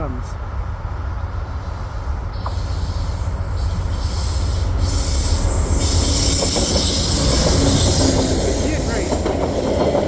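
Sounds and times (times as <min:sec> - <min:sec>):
diesel train low rumble: 0:00.0 - 0:10.0
wheels hissing on rails: 0:00.0 - 0:10.0.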